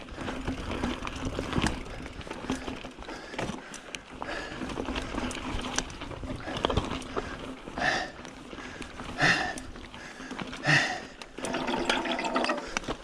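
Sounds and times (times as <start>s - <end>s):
bike clattering and rattling: 0.0s - 13.0s
bike rolling over dirt: 0.0s - 13.0s.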